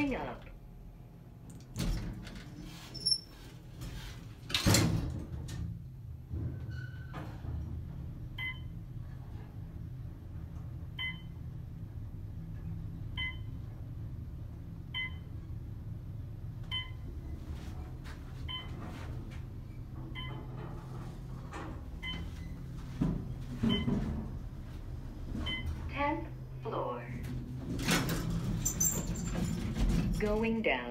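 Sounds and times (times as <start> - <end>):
elevator car humming: 5.4 - 30.6.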